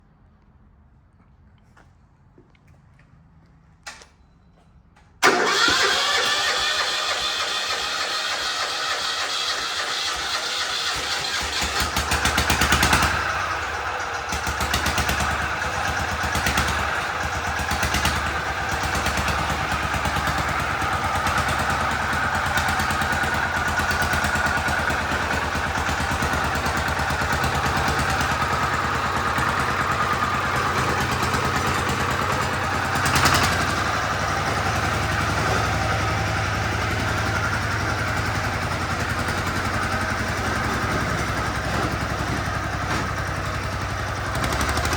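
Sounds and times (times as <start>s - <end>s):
diesel engine running: 5.2s - 44.9s.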